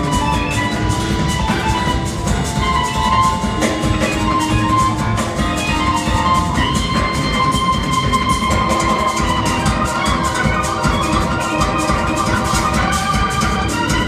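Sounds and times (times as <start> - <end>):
drum kit steady beat: 0.0 - 14.0
held melodic tones: 0.0 - 14.0
keyboards: 0.0 - 14.0.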